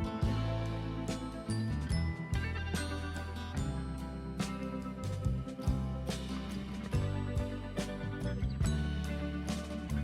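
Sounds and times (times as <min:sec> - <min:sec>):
chords over a regular beat: 0:00.0 - 0:10.0.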